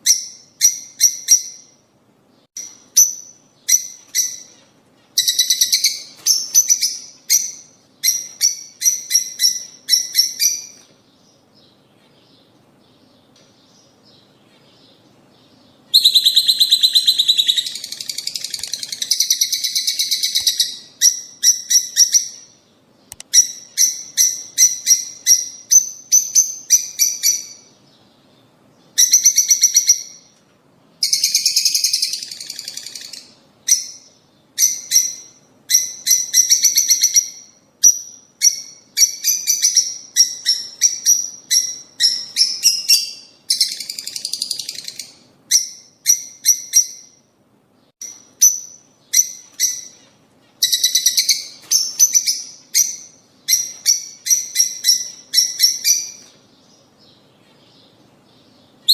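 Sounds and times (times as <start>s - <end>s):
lovebirds chirping: 0.0s - 58.9s.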